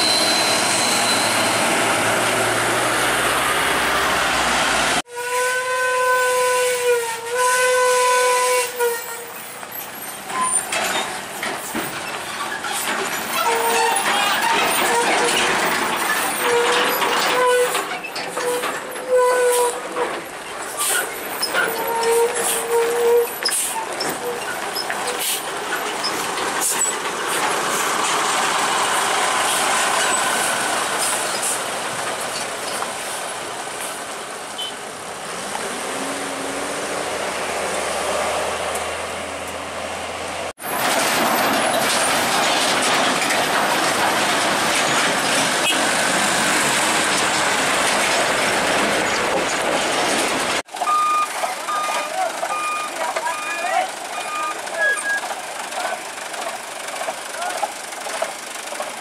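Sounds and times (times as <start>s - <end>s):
vehicle engines under load: 0.0s - 5.8s, 7.3s - 59.0s.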